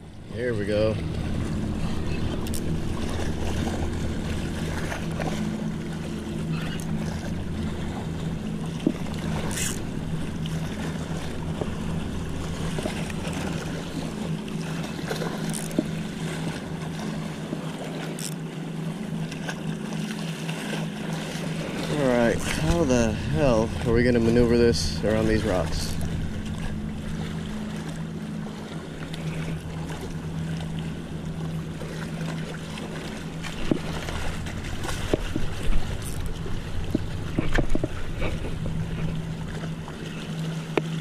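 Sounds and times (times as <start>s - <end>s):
boat motor humming: 0.0s - 41.0s
water noise: 0.0s - 41.0s.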